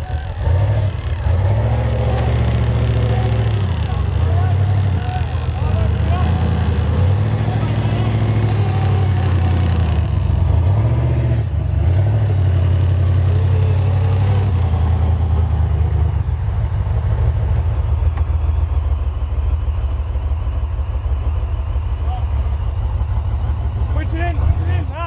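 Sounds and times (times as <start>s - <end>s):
off-road vehicle engine revving: 0.0s - 19.9s, 21.2s - 25.0s.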